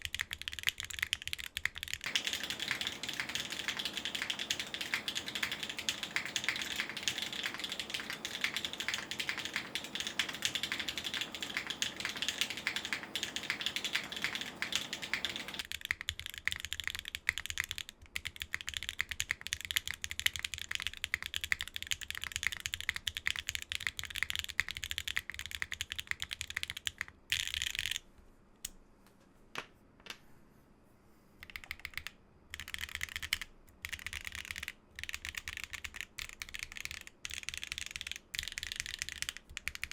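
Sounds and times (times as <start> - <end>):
mechanical keyboard typing: 0.0 - 28.0, 31.4 - 39.9.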